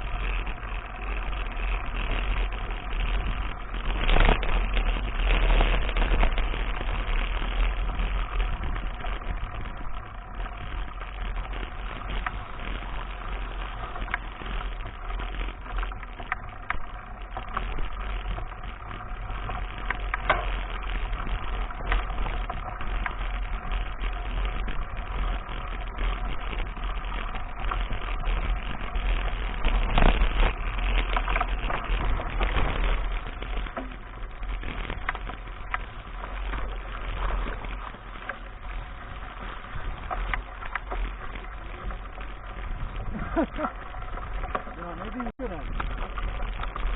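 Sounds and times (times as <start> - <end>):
bike clicks and rattles: 0.0 - 46.9
bike tyres on dirt: 0.0 - 46.9
wind rumble on microphone: 0.0 - 46.9.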